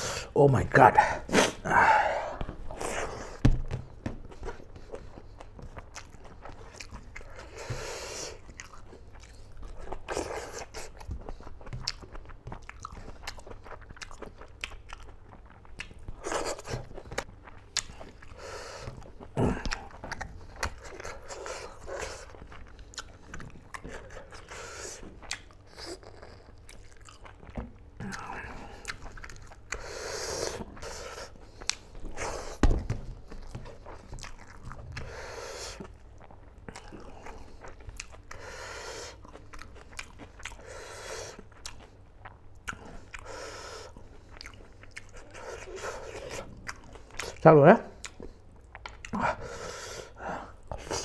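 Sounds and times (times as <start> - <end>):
person chewing food: 0.0 - 51.0.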